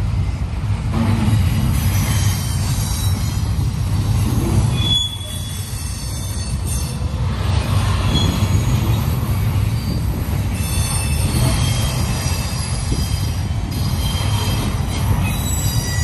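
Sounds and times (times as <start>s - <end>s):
train wheels rumbling on rail: 0.0s - 16.0s
high wheel squeals: 1.8s - 16.0s.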